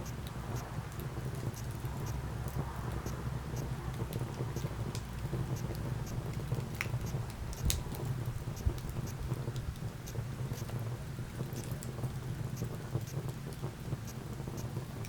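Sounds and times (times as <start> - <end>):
low rumble of flames: 0.0 - 15.0
wood fire popping and snapping: 0.2 - 15.0.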